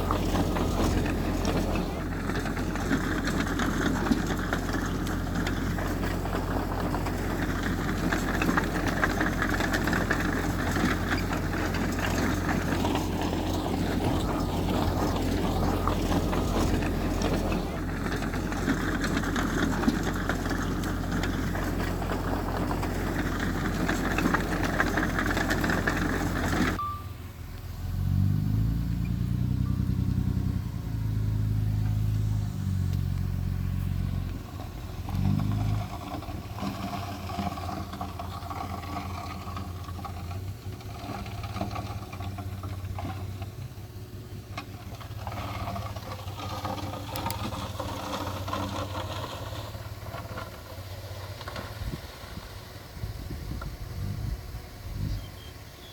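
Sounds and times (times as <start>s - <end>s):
engine revving: 0.0s - 26.8s, 27.5s - 55.9s
heavy machinery diesel engines: 0.0s - 55.9s.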